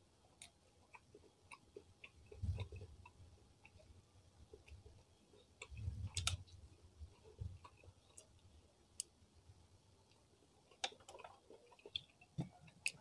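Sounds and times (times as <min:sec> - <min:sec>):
wet chewing clicks: 0:00.4 - 0:09.1, 0:10.1 - 0:13.0.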